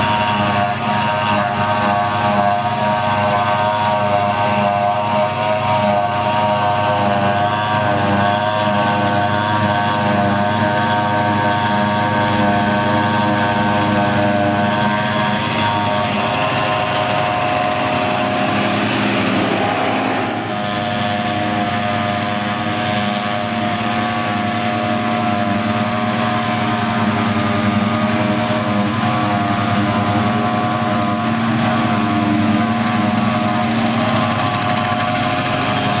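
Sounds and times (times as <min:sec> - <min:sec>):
forage harvester engine drone: 0:00.0 - 0:36.0
high whine of chopping and blowing: 0:00.0 - 0:36.0.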